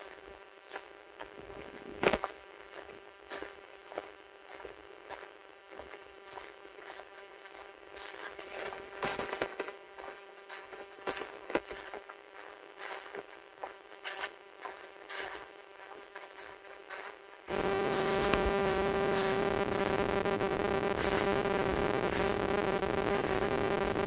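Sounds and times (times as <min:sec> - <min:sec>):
footsteps crunching dry leaves: 0:00.0 - 0:24.0
steady buzzing hum: 0:00.0 - 0:24.0.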